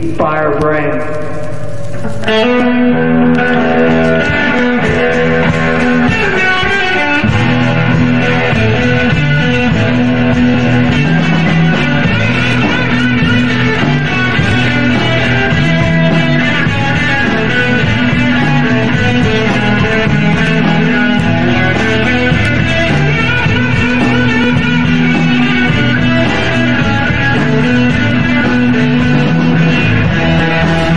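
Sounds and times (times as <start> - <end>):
rock music with guitar and bass: 0.0 - 30.9.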